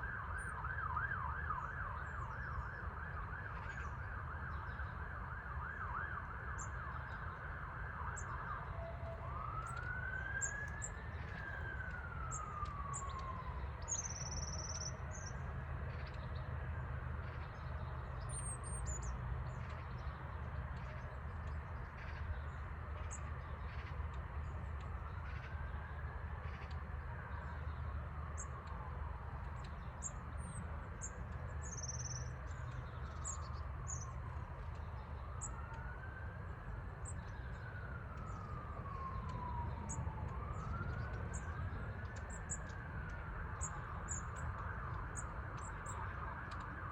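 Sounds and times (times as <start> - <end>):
emergency vehicle siren: 0.0 - 46.9
songbirds chirping: 0.0 - 46.9.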